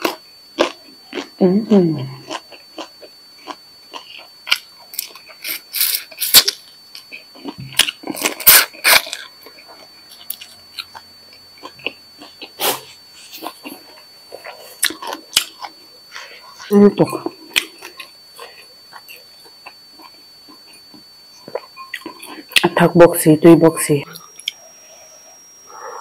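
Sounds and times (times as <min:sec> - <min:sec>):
crunching and chewing: 0:00.0 - 0:01.4, 0:02.1 - 0:22.8, 0:24.2 - 0:25.9
faint high-pitched whine: 0:00.0 - 0:26.0.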